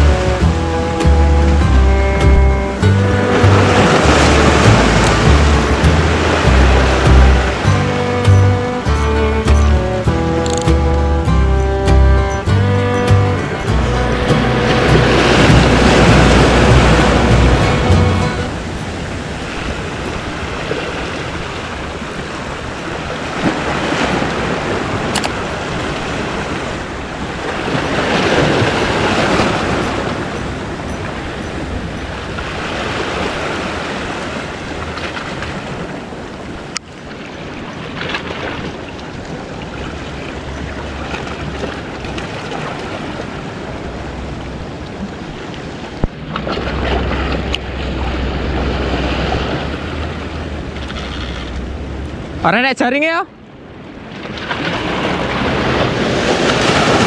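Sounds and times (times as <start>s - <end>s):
waves washing against rocks: 0.0s - 11.9s, 12.5s - 57.0s
wind buffeting microphone: 0.0s - 52.4s.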